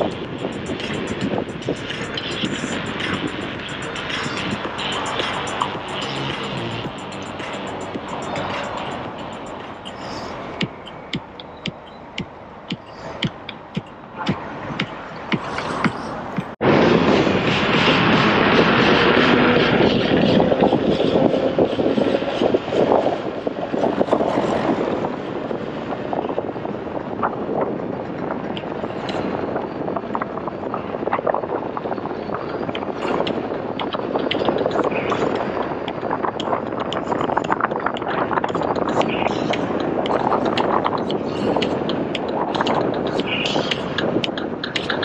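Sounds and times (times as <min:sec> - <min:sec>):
motorcycle wind and road noise: 0:00.0 - 0:45.0
wind buffeting on microphone: 0:00.0 - 0:45.0.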